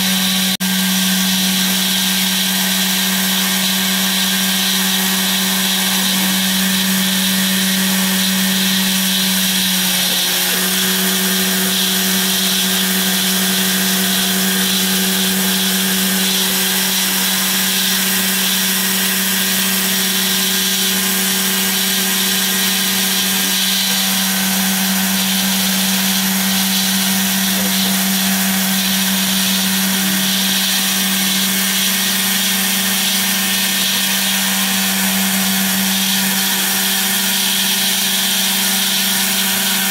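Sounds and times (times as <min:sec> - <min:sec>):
hiss of cutting foam: 0:00.0 - 0:39.9
router spindle humming: 0:00.0 - 0:39.9.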